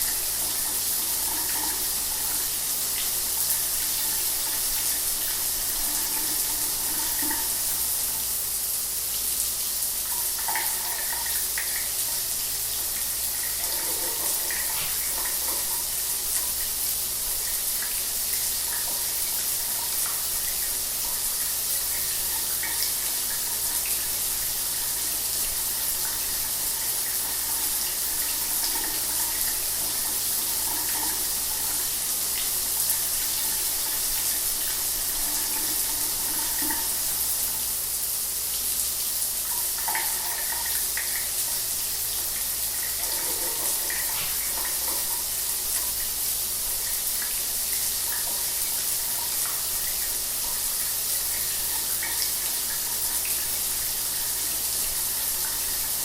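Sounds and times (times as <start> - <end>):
shower water running: 0.0 - 56.0.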